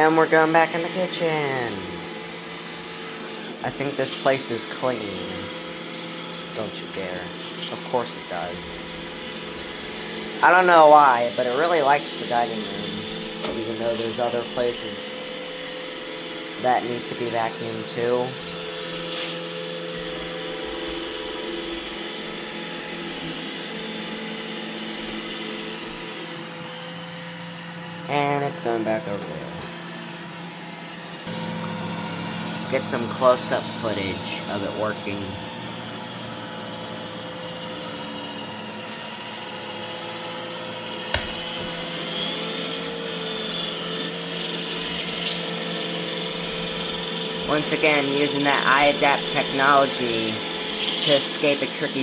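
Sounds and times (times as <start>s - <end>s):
robot vacuum running: 0.0s - 52.0s.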